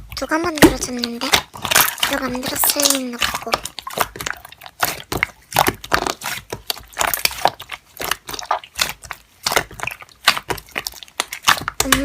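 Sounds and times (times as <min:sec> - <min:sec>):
slime crackling and popping: 0:00.0 - 0:12.0.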